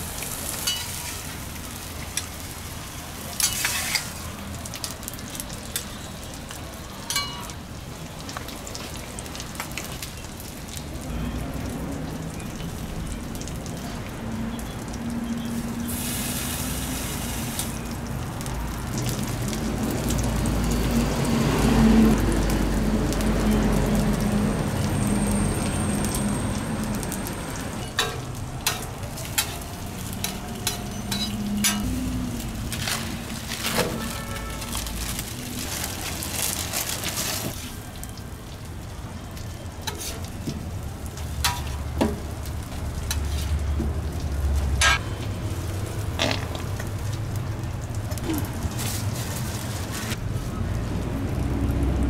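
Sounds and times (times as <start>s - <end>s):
burger patties sizzling on griddle: 0.0s - 10.9s, 15.3s - 50.4s.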